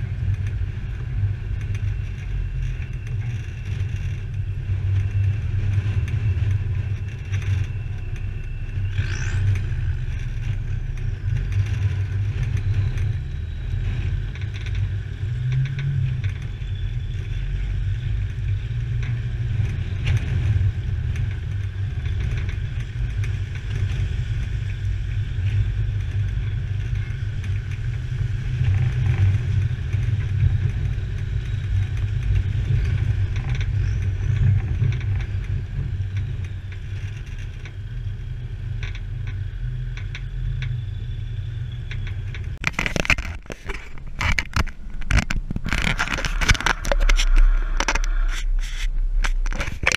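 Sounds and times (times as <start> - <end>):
vehicle engine rumble: 0.0 - 49.9.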